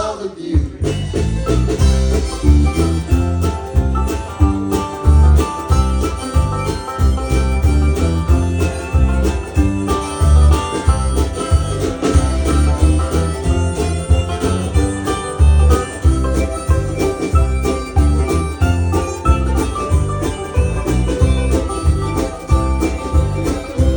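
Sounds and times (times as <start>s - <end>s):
guitar: 0.0s - 23.9s
picked banjo: 0.8s - 23.9s
steady bass beat: 0.8s - 23.9s.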